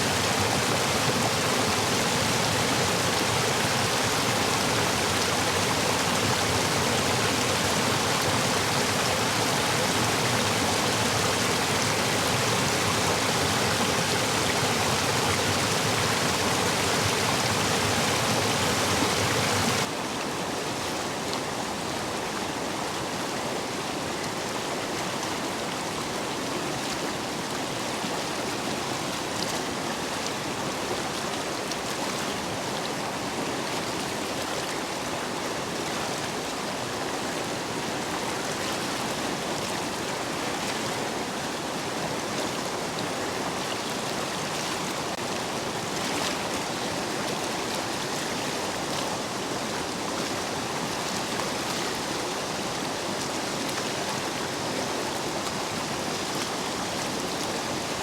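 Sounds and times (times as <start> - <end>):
stream water rushing over stones: 0.0 - 58.0.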